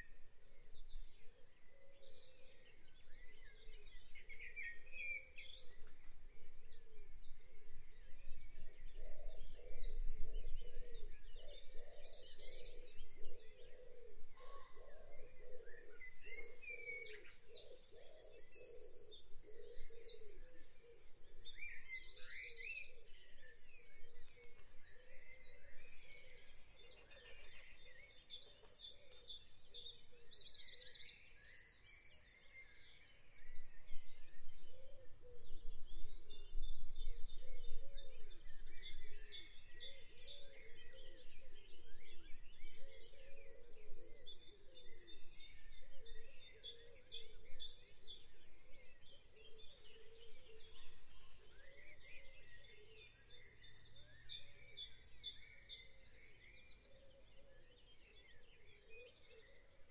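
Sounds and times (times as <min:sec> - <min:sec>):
songbirds trilling and chirping: 0:00.0 - 0:59.9.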